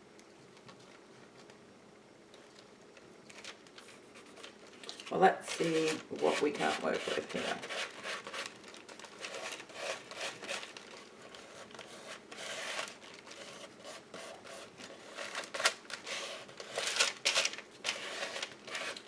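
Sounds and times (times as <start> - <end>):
paper rustling and rubbing: 3.3 - 19.0.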